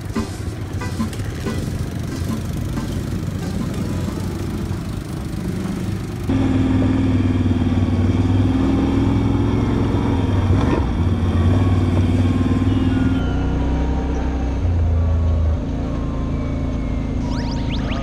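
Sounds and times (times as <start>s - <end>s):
quad bike engine running: 0.0s - 17.2s.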